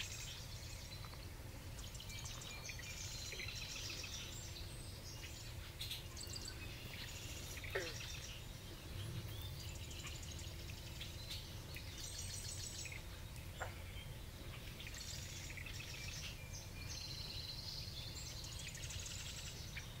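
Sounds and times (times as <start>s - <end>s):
distant songbirds trilling: 0.0s - 20.0s.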